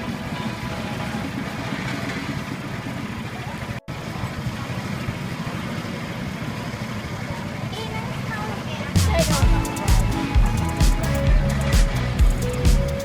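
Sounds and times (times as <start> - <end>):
low traffic hum: 0.8 - 13.0.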